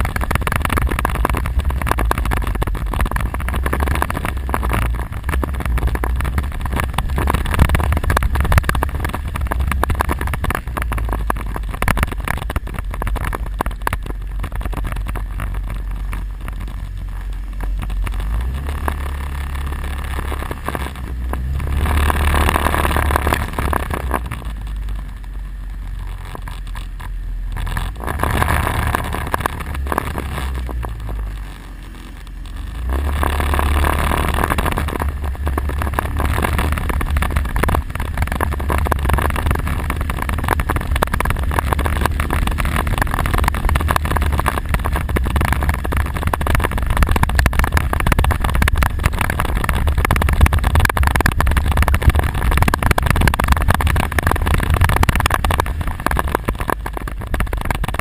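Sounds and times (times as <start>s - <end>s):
quad bike engine revving: 0.0s - 25.0s, 26.0s - 58.0s.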